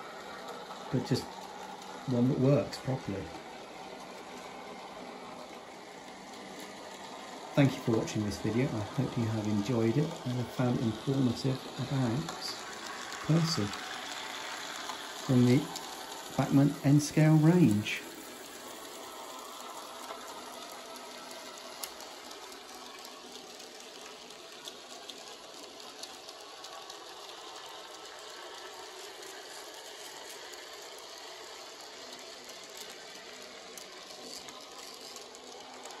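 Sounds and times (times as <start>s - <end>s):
model train whirring and rattling: 0.0s - 36.0s.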